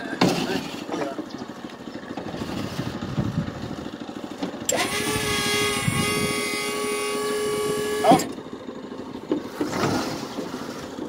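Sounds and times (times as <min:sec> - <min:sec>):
small engine idling and revving: 0:00.0 - 0:11.0.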